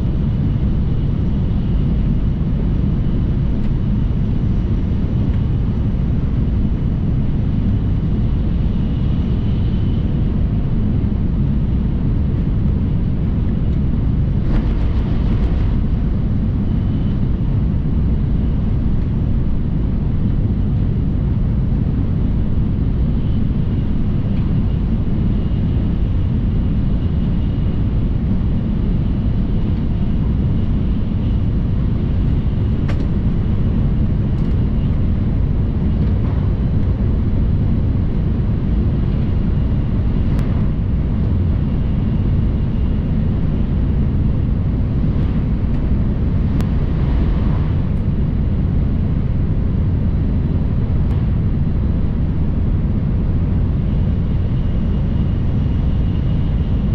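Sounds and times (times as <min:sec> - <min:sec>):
train low rumble: 0:00.0 - 0:56.9.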